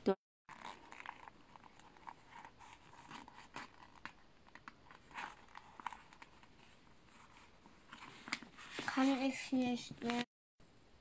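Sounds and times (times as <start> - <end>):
paper rustling: 0.5 - 10.3.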